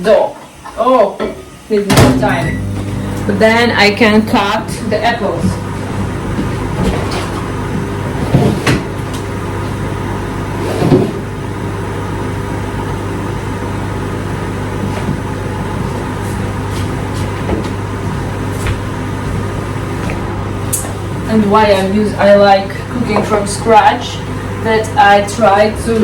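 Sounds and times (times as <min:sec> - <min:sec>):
kitchen appliance motor hum: 0:02.1 - 0:26.0.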